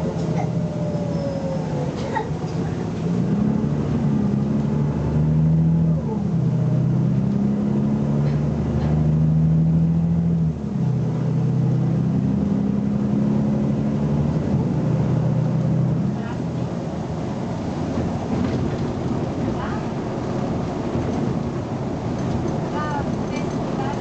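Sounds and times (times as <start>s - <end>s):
bus diesel engine accelerating: 0.0s - 24.0s.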